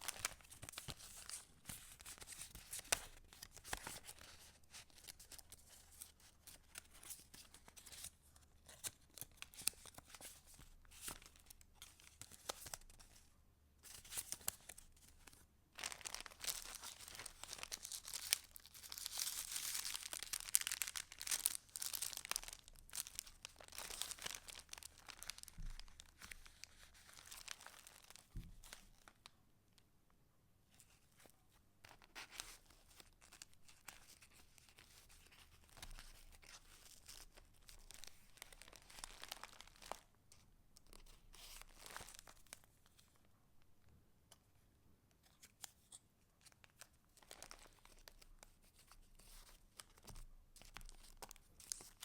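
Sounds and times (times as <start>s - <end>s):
paper pages rustling and crinkling: 0.0s - 13.2s, 13.8s - 29.2s, 30.8s - 43.2s, 45.2s - 52.0s.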